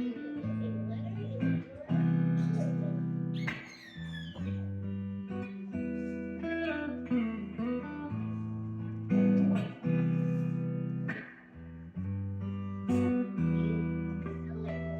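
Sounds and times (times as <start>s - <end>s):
guitar plucked notes and chords: 0.0s - 14.9s.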